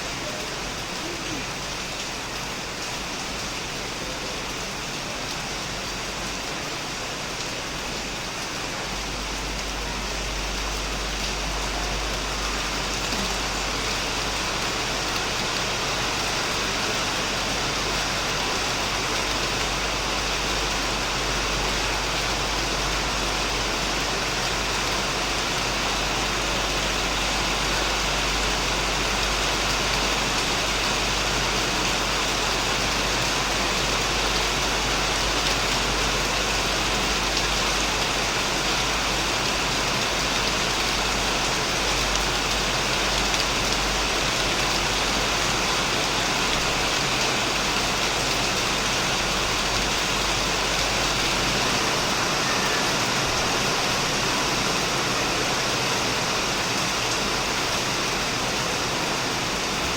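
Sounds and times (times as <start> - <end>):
heavy rain on a shed: 0.0 - 59.9.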